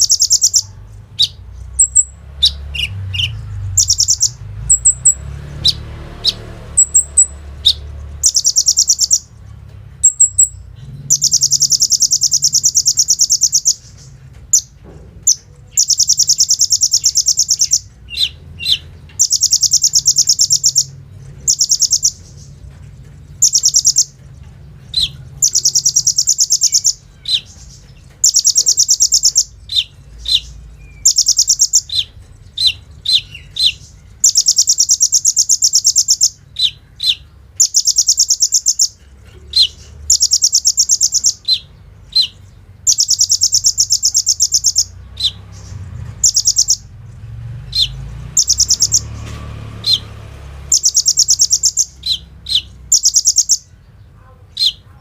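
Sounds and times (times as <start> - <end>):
bird singing fast trills: 0.0 - 9.4, 10.0 - 55.0
bird chips: 0.0 - 53.7.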